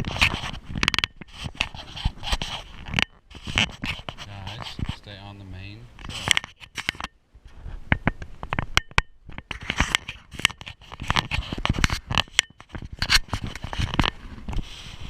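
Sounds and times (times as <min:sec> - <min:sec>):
rustling: 0:00.0 - 0:08.7, 0:09.3 - 0:15.0.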